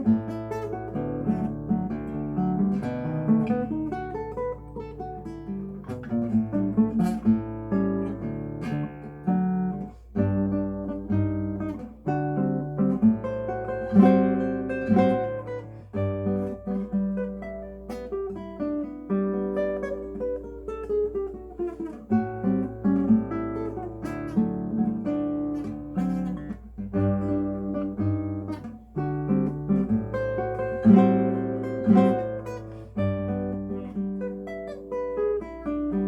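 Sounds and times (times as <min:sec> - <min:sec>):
classical guitar playing: 0:00.0 - 0:36.0.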